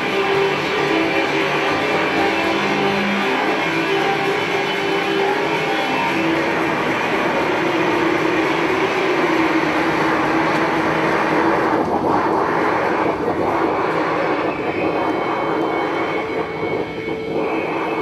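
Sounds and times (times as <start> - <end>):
loud roaring noise: 0.0 - 18.0
low held tone: 0.0 - 18.0.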